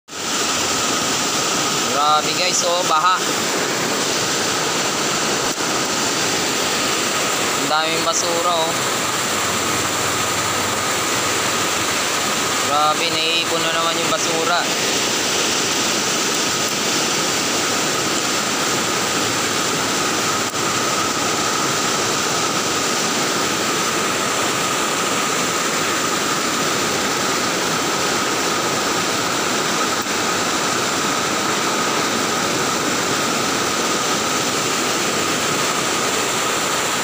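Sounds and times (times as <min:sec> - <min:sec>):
floodwater rushing against bank: 0:00.1 - 0:37.0.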